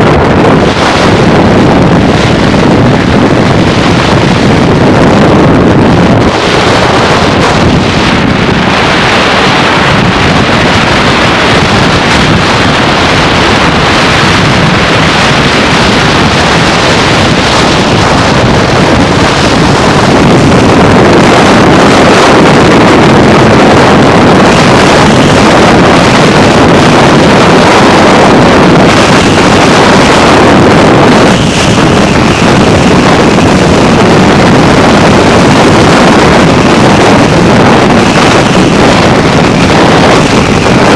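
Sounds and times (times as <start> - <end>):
car road noise: 0.0 - 40.9
wind buffeting microphone: 0.0 - 40.9.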